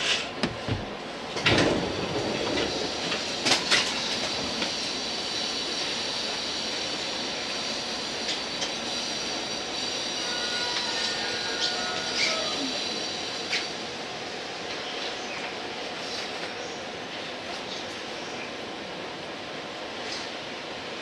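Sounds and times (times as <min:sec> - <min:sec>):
wheels running on rails: 0:00.0 - 0:18.4
sharp train clacks: 0:01.3 - 0:18.2.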